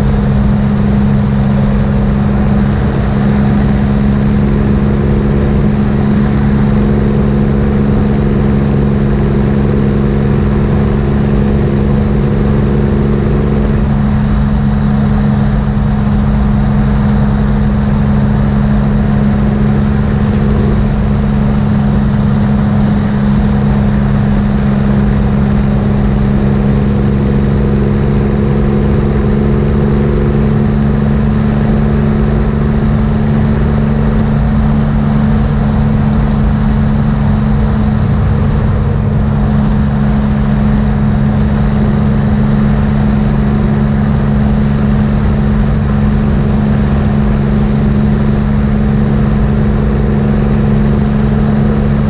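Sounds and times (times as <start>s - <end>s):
motorcycle engine cruising: 0.0s - 52.0s.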